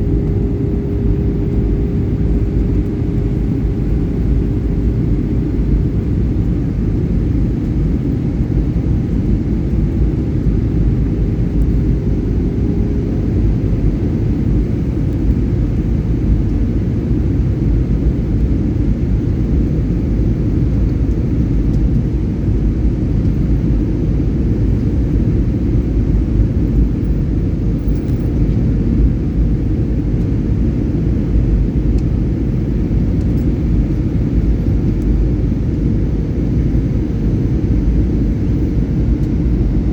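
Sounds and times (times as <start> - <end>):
airliner engines roaring: 0.0 - 39.9
faint hum: 0.0 - 39.9.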